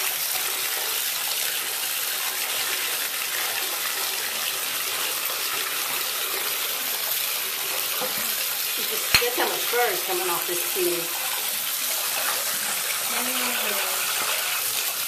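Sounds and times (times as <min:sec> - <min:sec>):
faucet water pouring into tub: 0:00.0 - 0:15.0.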